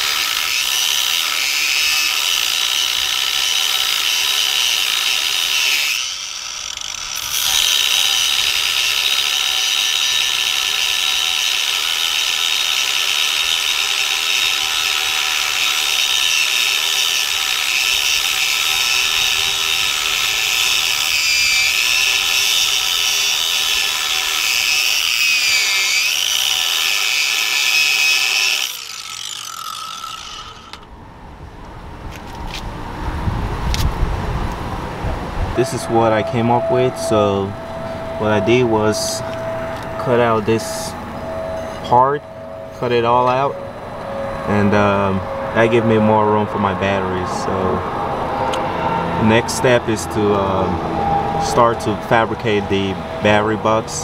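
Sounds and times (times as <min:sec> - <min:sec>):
angle grinder cutting metal: 0:00.0 - 0:30.9, 0:35.6 - 0:54.0.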